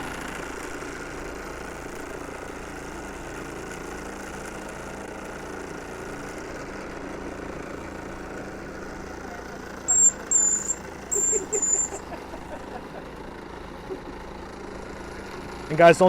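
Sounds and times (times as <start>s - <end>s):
small steam engines running: 0.0s - 16.0s.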